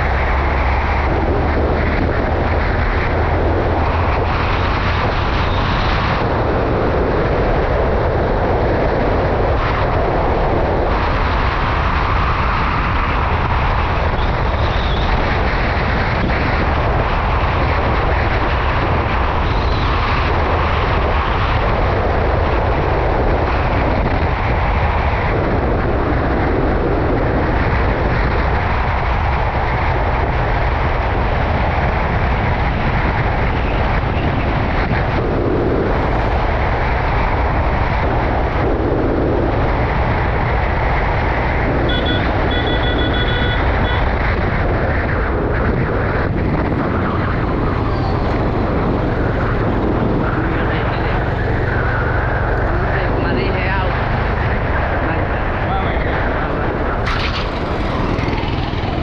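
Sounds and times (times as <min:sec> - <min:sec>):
motorcycle engine and road noise: 0:00.0 - 0:59.0
wind rush: 0:00.0 - 0:59.0.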